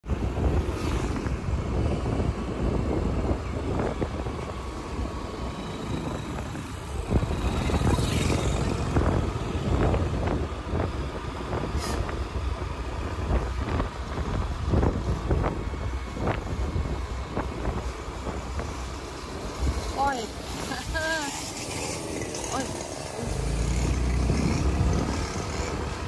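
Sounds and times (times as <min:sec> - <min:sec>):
vehicle rumbling: 0:00.0 - 0:26.0.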